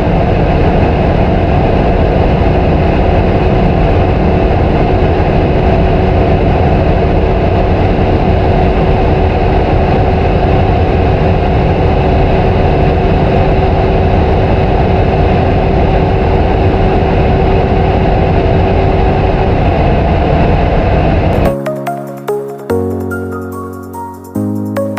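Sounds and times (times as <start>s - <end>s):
constant humming tone: 0.0s - 21.6s.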